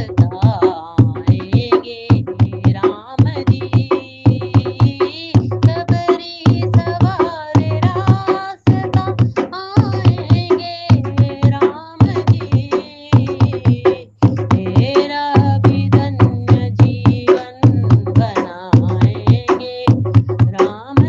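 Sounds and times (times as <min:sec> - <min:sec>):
hand drum beat: 0:00.0 - 0:21.0
person singing devotional song: 0:00.0 - 0:21.0.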